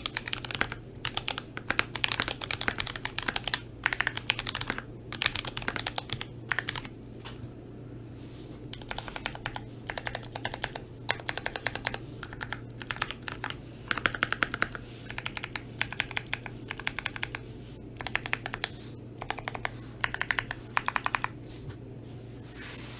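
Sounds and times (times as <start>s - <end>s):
typing on mechanical keyboard: 0.0s - 6.9s, 8.7s - 17.4s, 18.0s - 21.4s.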